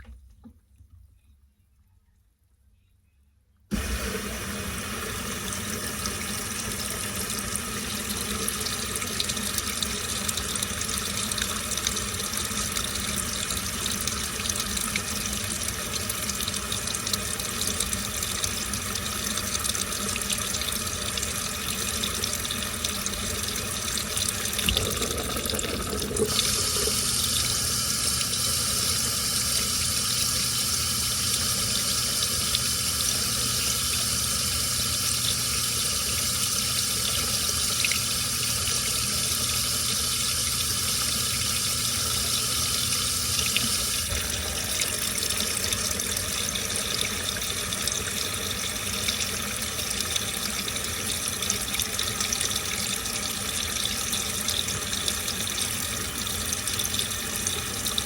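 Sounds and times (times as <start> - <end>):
low machine hum: 3.7 - 58.0
water rushing into washing machine: 3.7 - 58.0.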